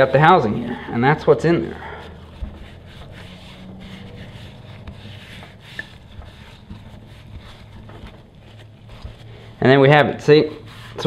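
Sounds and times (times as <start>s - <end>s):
paper towel rubbing metal: 0.0s - 11.0s.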